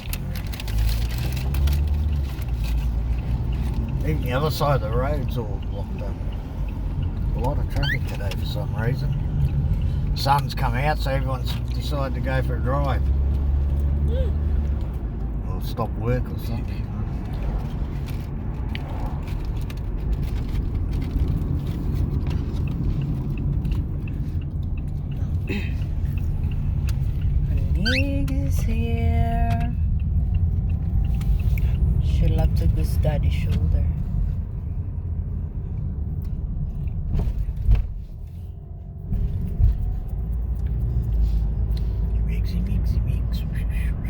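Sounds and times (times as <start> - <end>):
car engine rumble: 0.0 - 44.0
road noise: 0.0 - 44.0.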